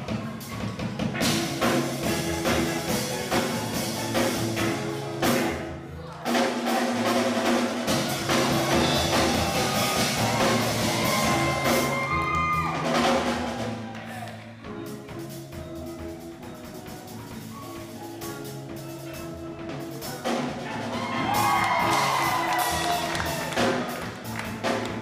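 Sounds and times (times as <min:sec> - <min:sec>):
steady drum beat: 0:00.0 - 0:25.0
steel pan band playing: 0:00.0 - 0:25.0.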